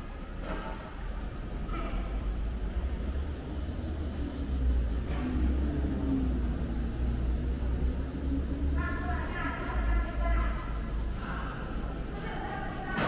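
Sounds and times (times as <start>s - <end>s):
faint engine hum: 0.0s - 13.0s
street traffic rumble: 0.0s - 13.0s.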